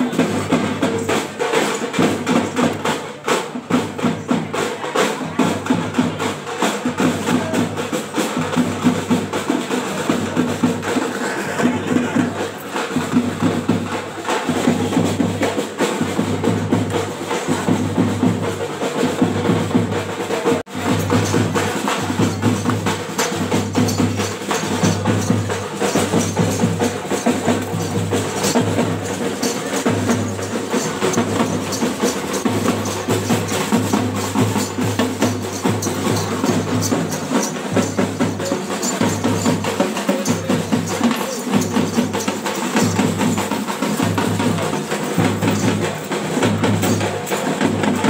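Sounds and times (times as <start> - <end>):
fast dense drumming: 5.5 - 48.0.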